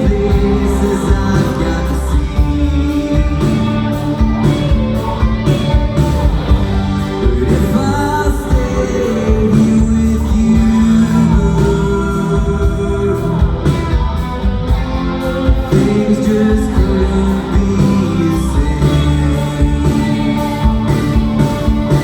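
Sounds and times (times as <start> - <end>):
live band playing slow rock: 0.0 - 22.0.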